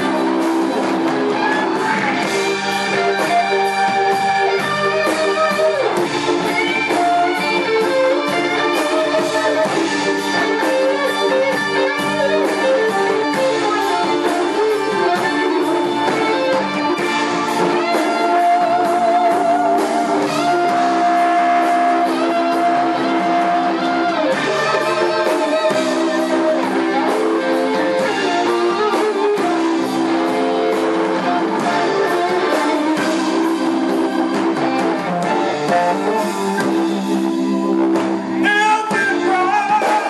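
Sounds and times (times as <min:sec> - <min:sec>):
band playing: 0:00.0 - 0:40.0
electric blues guitar solo: 0:00.0 - 0:40.0.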